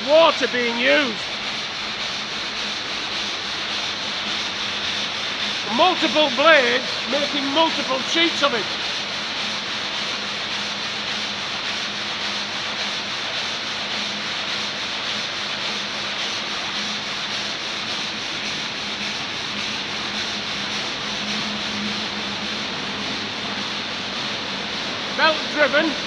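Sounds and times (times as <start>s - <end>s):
saw grinding through stone: 0.0s - 23.6s.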